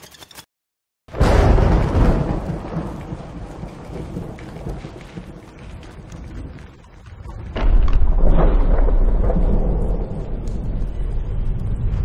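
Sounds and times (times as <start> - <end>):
low rumble of thunder: 1.1 - 12.0
steady rain: 1.1 - 12.0.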